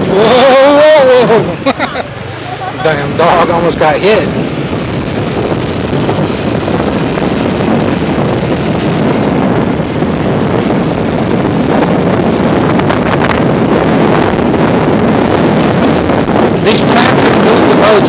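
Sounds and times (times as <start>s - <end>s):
road noise: 0.0s - 18.0s
wind rushing on microphone: 0.0s - 18.0s.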